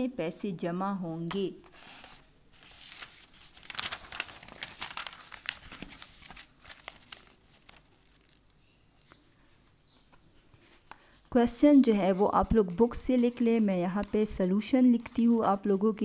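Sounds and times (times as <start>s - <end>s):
paper pages rustling: 1.6s - 16.0s.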